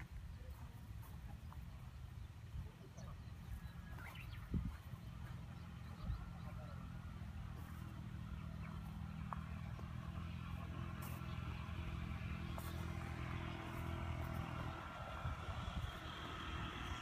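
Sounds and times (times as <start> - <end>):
low engine hum: 0.0 - 17.0
outdoor background noise: 0.0 - 17.0.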